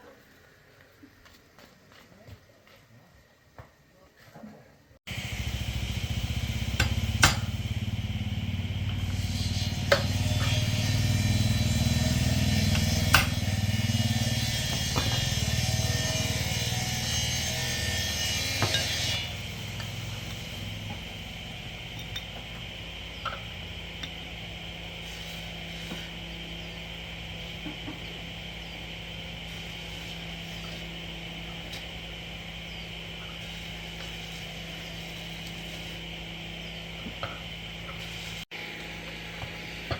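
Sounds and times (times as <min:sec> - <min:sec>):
machine running: 0:05.1 - 0:39.9.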